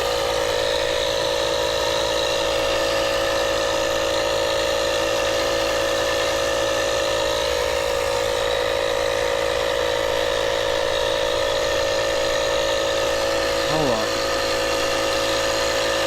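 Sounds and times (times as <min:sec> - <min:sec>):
steady mechanical drone: 0:00.0 - 0:16.0.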